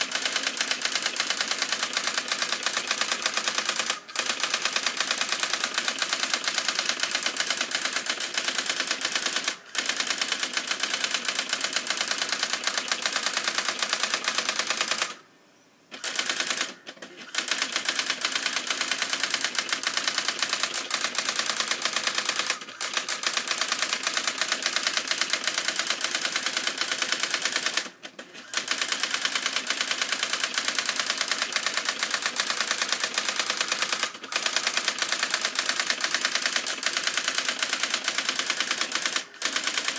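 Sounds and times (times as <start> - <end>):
daisywheel printer rattling: 0.0 - 15.2, 16.0 - 39.9.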